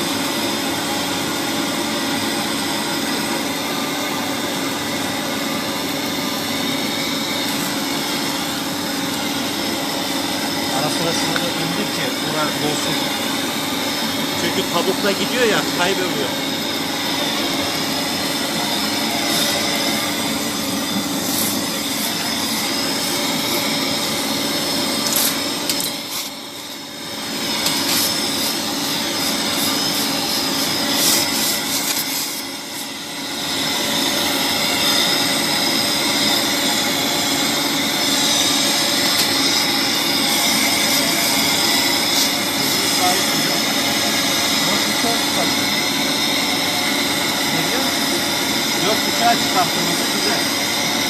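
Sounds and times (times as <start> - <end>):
machine hum: 0.0 - 51.0
welding arc crackling hiss: 4.8 - 51.0.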